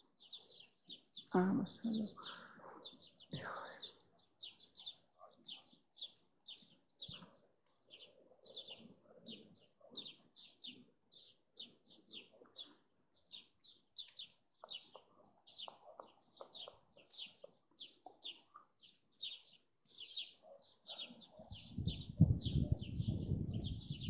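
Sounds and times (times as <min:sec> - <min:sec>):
small bird chirping: 0:00.0 - 0:24.0.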